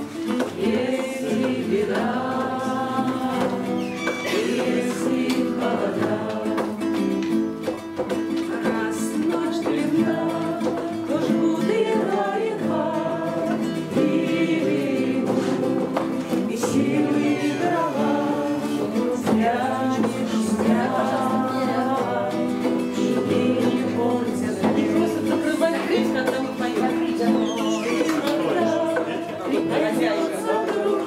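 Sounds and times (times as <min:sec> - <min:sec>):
acoustic guitar: 0:00.0 - 0:31.0
group singing: 0:00.0 - 0:31.0.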